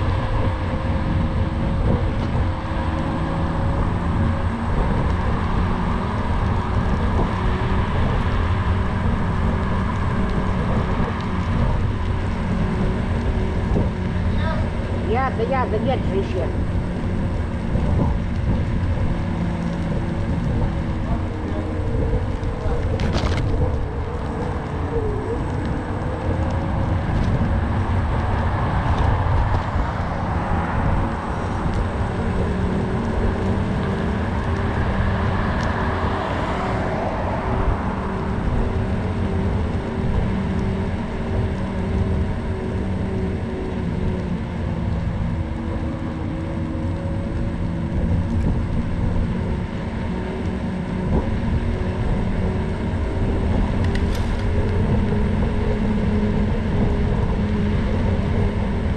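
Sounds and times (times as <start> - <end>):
electric motor whine: 0.0 - 58.9
scooter wheels rumbling: 0.0 - 58.9.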